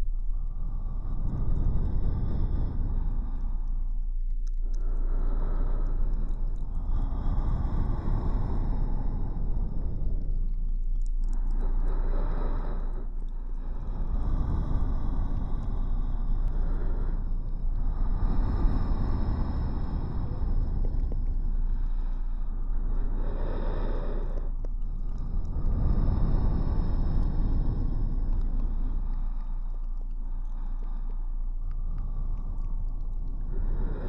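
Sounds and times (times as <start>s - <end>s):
heavy breathing: 0.0s - 34.0s
steady low hum: 0.0s - 34.0s.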